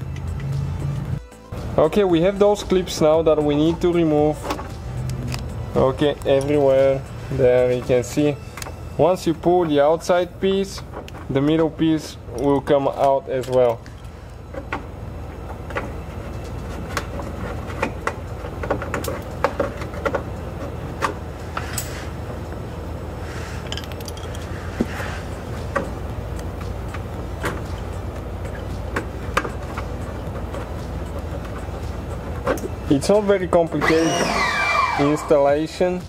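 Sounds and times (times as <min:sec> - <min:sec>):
steady low hum: 0:00.0 - 0:33.7.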